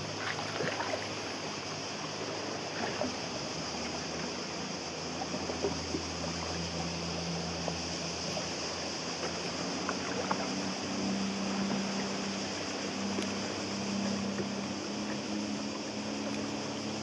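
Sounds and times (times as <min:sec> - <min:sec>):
small waves lapping against hull: 0:00.0 - 0:17.0.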